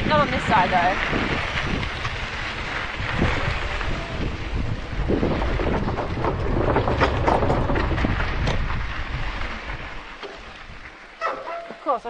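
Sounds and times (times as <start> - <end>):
wind rumbling on microphone: 0.0 - 11.9
crackles: 0.0 - 12.0.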